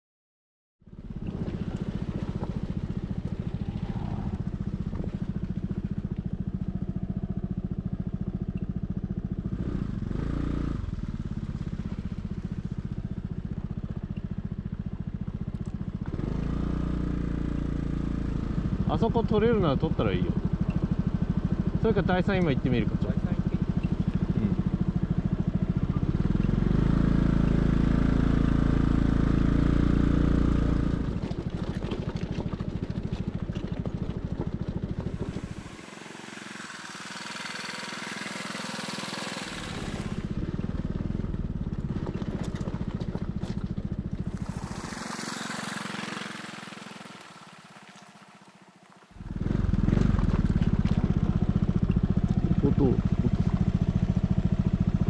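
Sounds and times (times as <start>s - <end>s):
scooter engine running: 0.9s - 55.0s.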